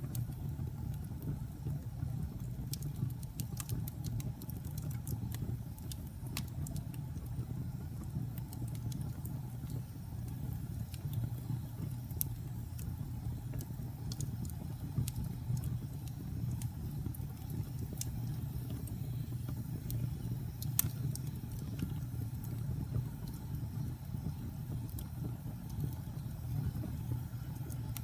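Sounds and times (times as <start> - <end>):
fire crackling and popping: 0.0 - 28.0
low fire rumble: 0.0 - 28.0.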